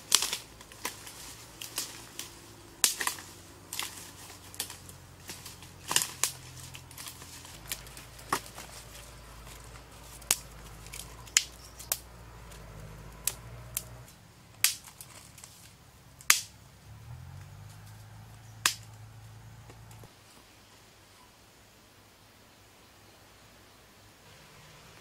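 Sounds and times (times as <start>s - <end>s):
dry twigs snapping: 0.0s - 20.1s.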